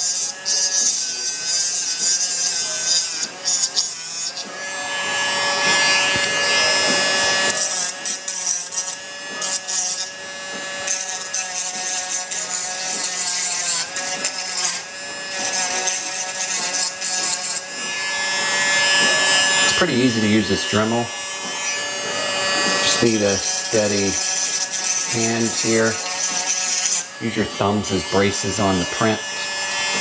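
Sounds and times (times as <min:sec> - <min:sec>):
rotary tool grinding plastic: 0:00.0 - 0:30.0.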